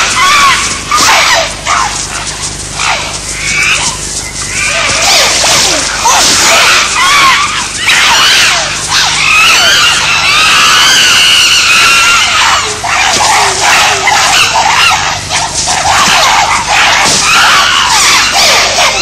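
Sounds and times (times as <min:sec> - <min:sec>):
chimpanzees shrieking: 0:00.0 - 0:19.0.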